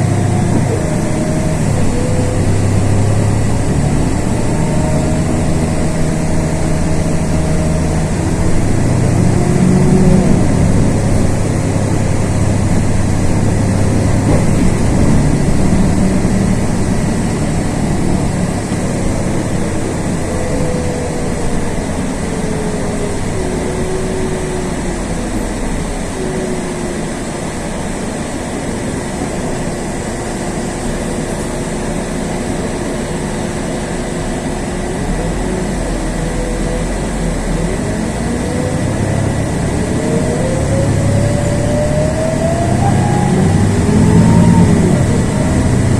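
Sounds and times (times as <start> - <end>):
bus engine with whine: 0.0 - 45.9.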